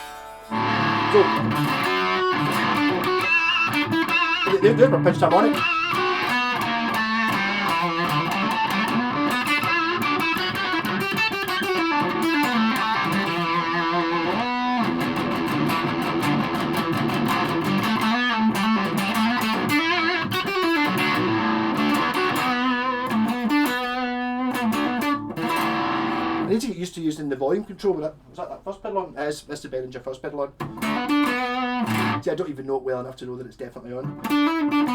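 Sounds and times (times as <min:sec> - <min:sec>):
electric guitar lead with vibrato: 0:00.0 - 0:26.5, 0:30.6 - 0:32.2, 0:34.1 - 0:34.9.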